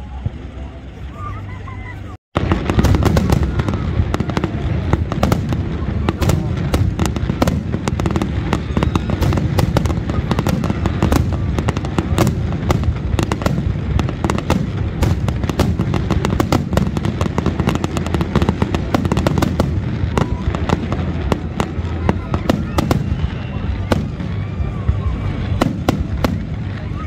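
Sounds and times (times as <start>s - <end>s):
fireworks bangs: 2.4s - 27.0s.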